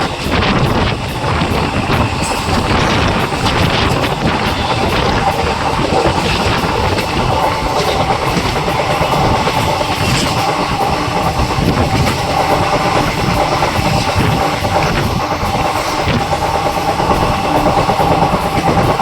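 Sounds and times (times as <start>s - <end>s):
clickety-clack knocks: 0.0s - 19.0s
train wheels rumbling on rail: 0.0s - 19.0s.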